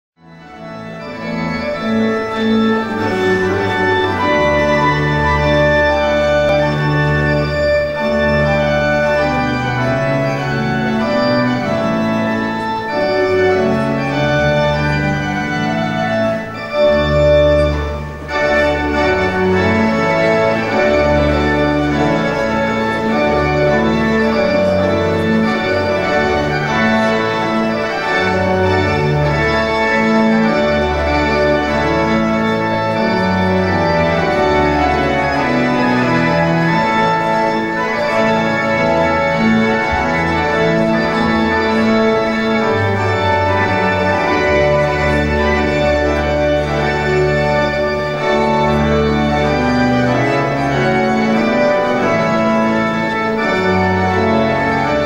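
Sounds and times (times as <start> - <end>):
organ music: 0.2 - 55.0.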